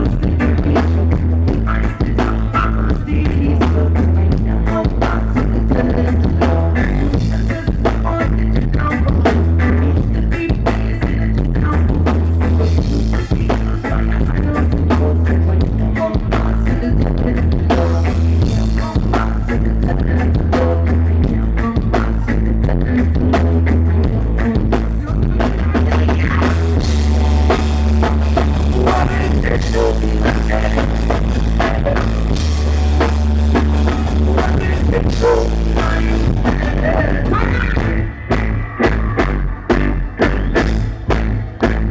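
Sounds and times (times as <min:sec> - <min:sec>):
drum kit beat: 0:00.0 - 0:41.9
heavy bass line: 0:00.0 - 0:41.9
rock band playing live: 0:00.0 - 0:41.9.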